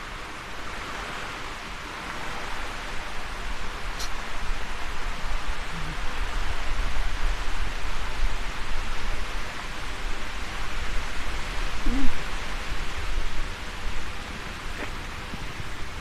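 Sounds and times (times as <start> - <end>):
steady rain hiss: 0.0 - 16.0
wind buffeting microphone: 0.6 - 16.0.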